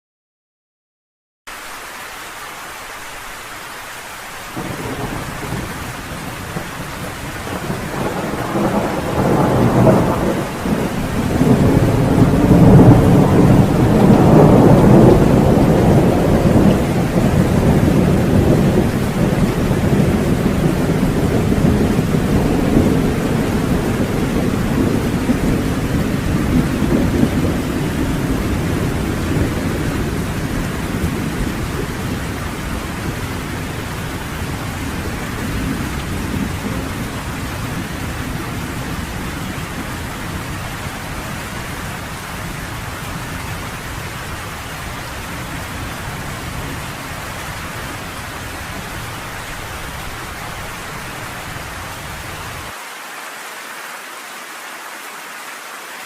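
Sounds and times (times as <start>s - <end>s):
steady rain: 1.5s - 56.0s
rolling thunder: 4.6s - 52.7s.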